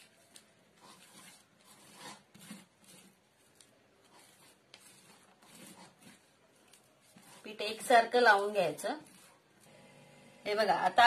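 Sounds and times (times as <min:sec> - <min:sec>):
hand rubbing paste on leaves: 0:00.0 - 0:09.8.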